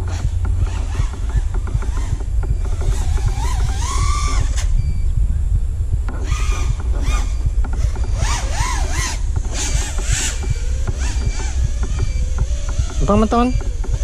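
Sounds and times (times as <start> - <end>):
drone motors whining: 0.0 - 14.0
low wind rumble: 0.0 - 14.0.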